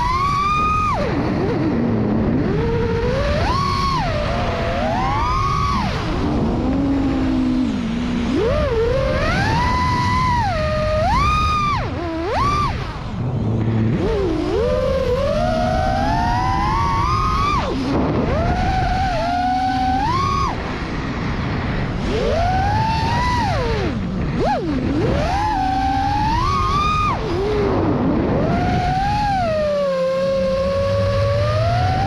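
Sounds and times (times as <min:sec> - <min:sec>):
drone motors whining: 0:00.0 - 0:32.0
steady rushing noise: 0:00.0 - 0:32.0.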